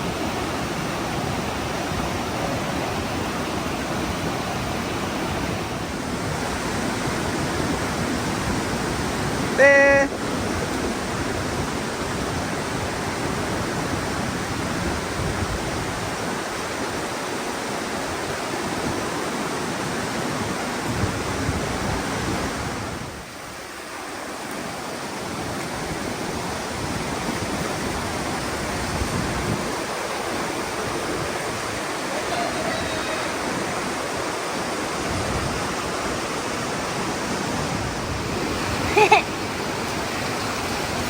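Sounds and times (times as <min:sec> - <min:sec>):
mountain stream rushing: 0:00.0 - 0:41.0.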